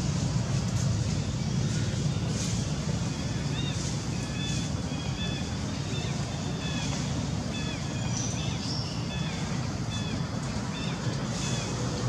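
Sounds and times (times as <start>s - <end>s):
low outdoor rumble: 0.0s - 12.0s
small birds chirping: 1.2s - 11.8s.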